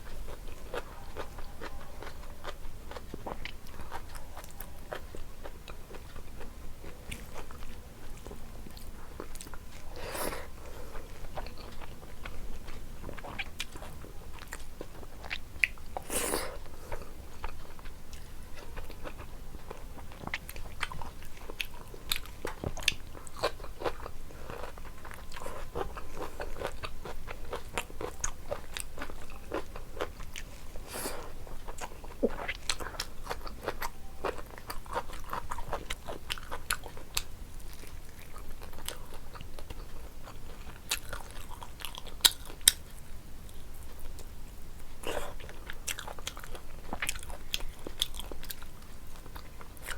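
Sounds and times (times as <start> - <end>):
person chewing: 0.0 - 42.9, 43.5 - 49.9.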